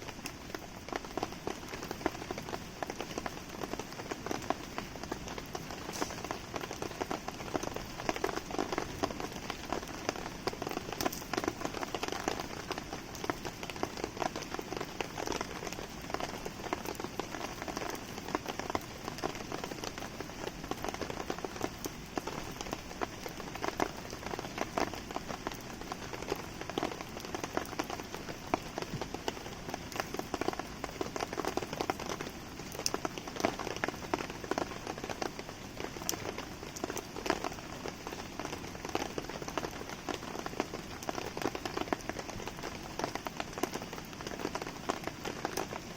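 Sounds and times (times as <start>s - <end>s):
campfire crackling: 0.0s - 45.9s
rain falling: 0.0s - 45.9s.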